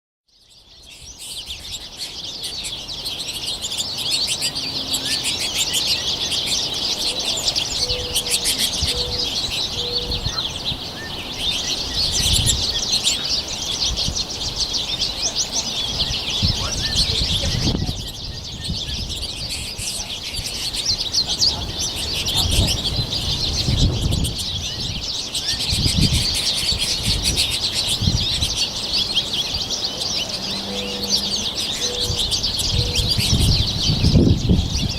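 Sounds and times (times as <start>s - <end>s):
finches chattering and twittering: 0.3s - 34.9s.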